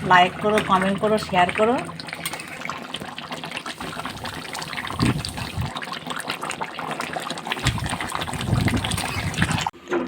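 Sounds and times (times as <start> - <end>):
water running and trickling: 0.1 - 9.7.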